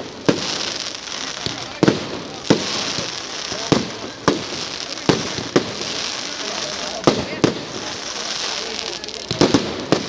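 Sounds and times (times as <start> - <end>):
crackling hiss of fireworks: 0.0 - 10.0
fireworks bangs: 0.0 - 10.0.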